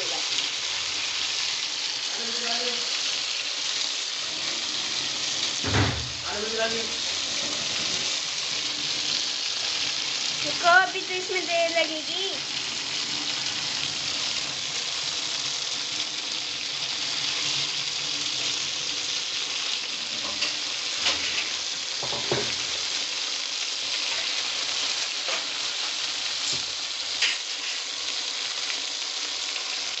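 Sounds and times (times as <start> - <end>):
food sizzling in hot pan: 0.0 - 30.0.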